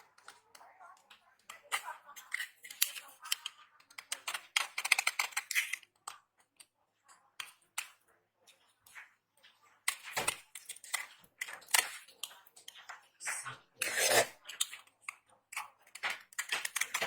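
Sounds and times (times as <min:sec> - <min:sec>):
dry soap crackling and crunching: 0:00.0 - 0:17.0.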